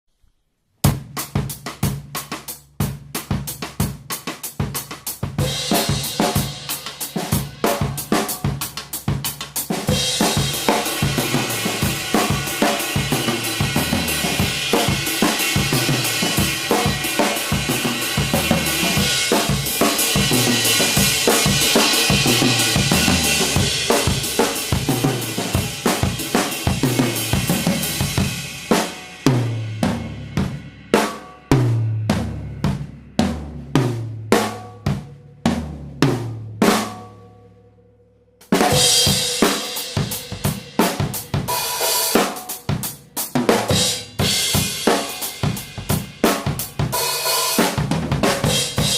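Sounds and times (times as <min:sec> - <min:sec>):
drum kit groove: 0:00.8 - 0:37.3, 0:38.4 - 0:48.9.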